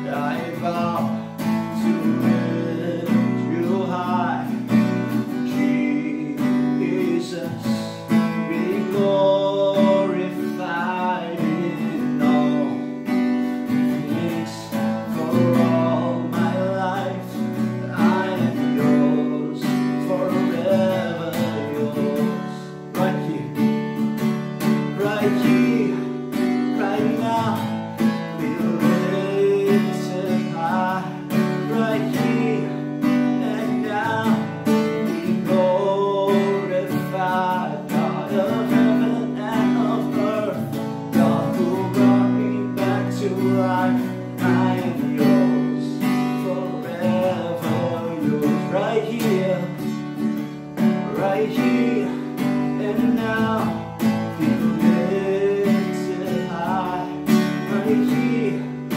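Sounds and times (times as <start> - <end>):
man singing: 0.0 - 58.9
strummed acoustic guitar: 0.0 - 58.9.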